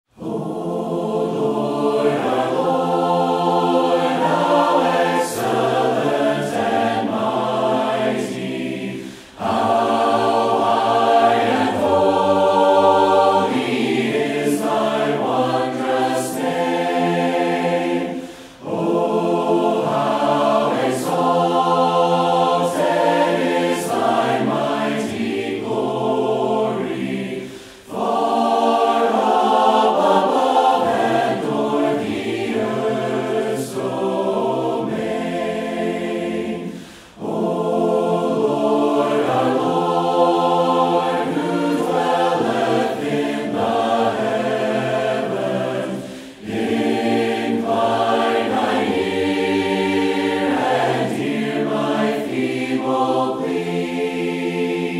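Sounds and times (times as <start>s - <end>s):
choir singing a hymn: 0.1s - 54.9s.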